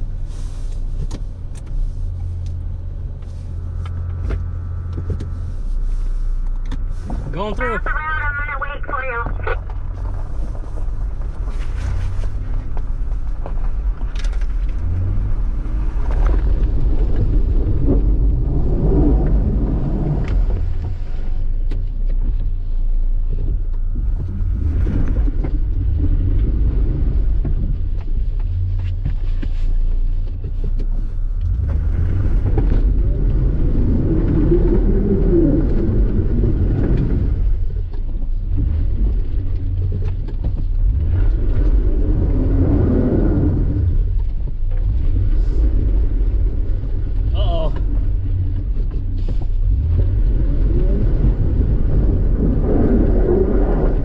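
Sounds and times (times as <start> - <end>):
engine rumbling inside cab: 0.0 - 54.0.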